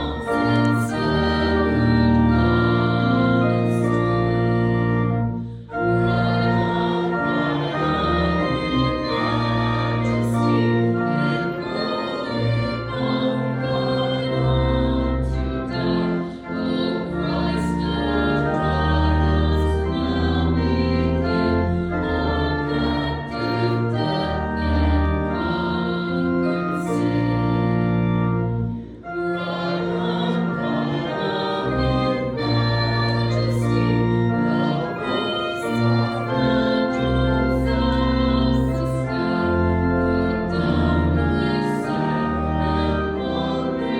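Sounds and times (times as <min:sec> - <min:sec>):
congregation singing: 0:00.0 - 0:43.9
organ playing hymn chords: 0:00.0 - 0:43.9.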